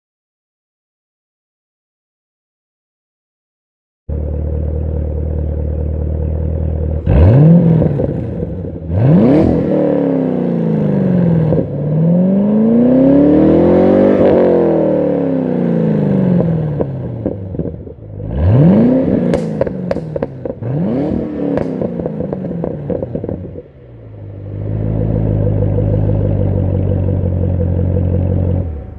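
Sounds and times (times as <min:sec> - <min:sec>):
car engine idling and revving: 0:04.1 - 0:28.9
exhaust crackles: 0:04.1 - 0:28.9.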